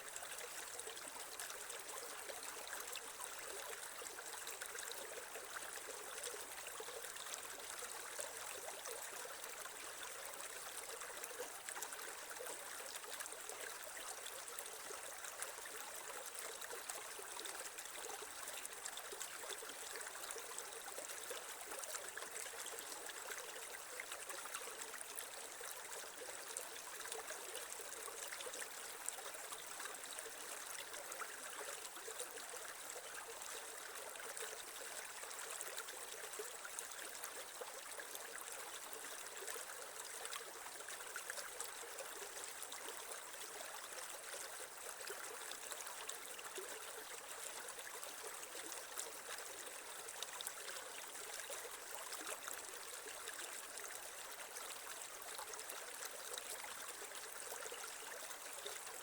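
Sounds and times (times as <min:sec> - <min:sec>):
creek water trickling over stones: 0:00.0 - 0:59.0.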